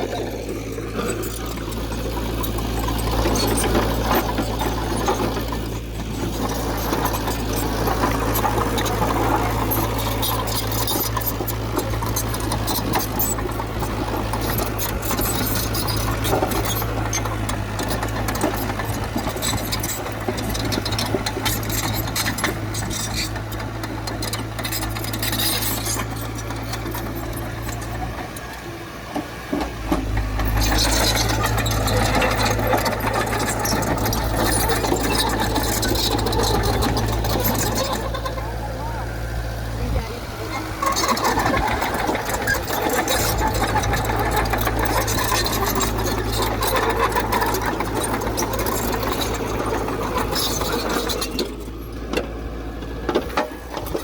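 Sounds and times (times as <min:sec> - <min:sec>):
rapid metallic rattle: 0:00.0 - 0:28.6, 0:29.9 - 0:54.0
diesel engine running: 0:00.0 - 0:54.0.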